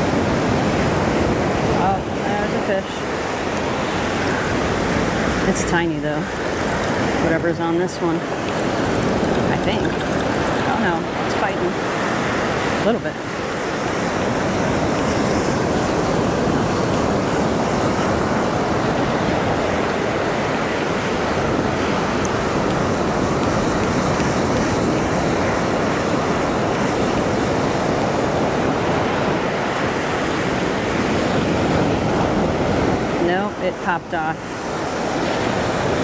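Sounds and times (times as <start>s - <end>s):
ocean surf on sandy beach: 0.0s - 36.0s.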